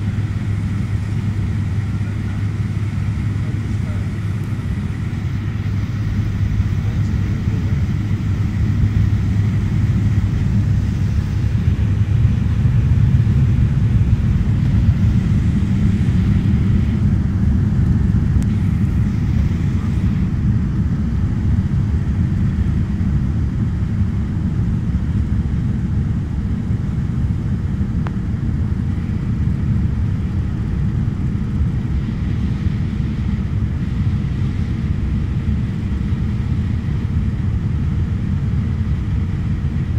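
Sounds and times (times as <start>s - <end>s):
turboprop engines droning in cabin: 0.0s - 39.9s.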